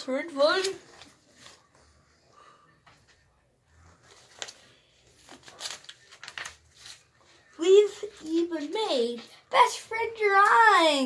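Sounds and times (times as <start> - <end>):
paper rustling: 0.1 - 2.2, 2.8 - 9.8.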